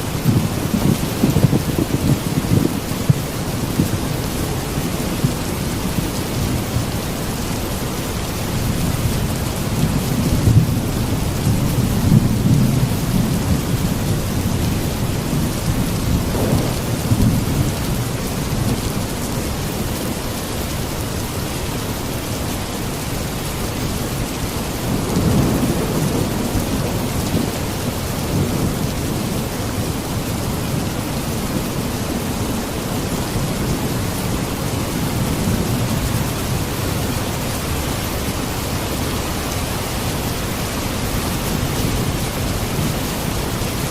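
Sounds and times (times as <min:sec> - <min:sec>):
thunder rumbling: 0:00.0 - 0:20.2, 0:24.3 - 0:43.9
heavy rain hissing: 0:00.0 - 0:43.9.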